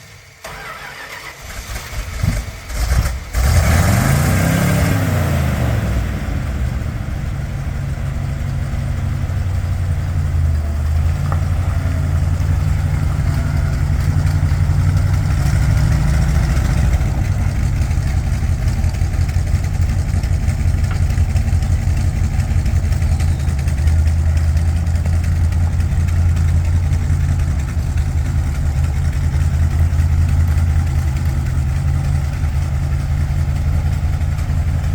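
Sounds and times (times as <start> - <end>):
truck engine cranking and idling: 0.0 - 34.9.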